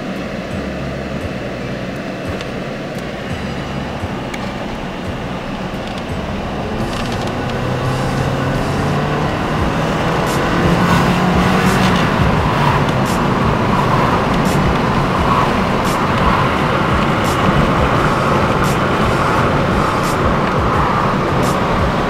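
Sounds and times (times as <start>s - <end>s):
car engine accelerating: 0.0s - 22.0s
road noise: 0.0s - 22.0s.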